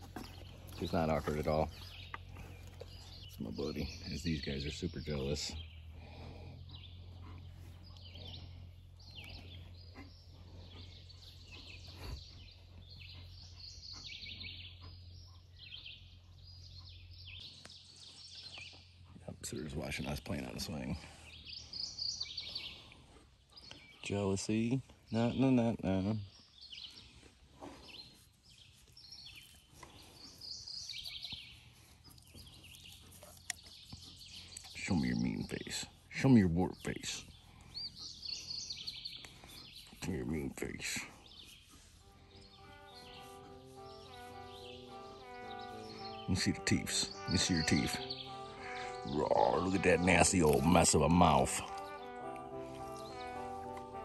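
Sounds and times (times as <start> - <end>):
birds chirping faintly: 0.0 - 54.0.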